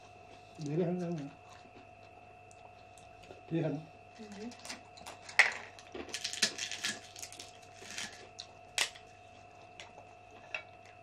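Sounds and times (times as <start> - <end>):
food being chewed crunching: 0.2 - 3.5, 4.9 - 11.0.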